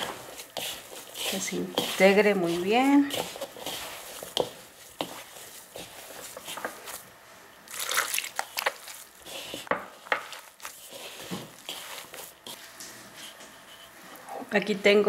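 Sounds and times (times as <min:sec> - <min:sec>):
hand squishing damp dough: 0:00.0 - 0:13.8.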